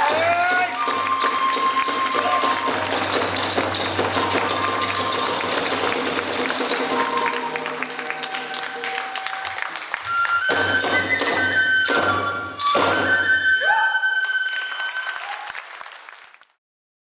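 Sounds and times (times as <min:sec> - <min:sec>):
bamboo flute high notes: 0:00.0 - 0:15.5.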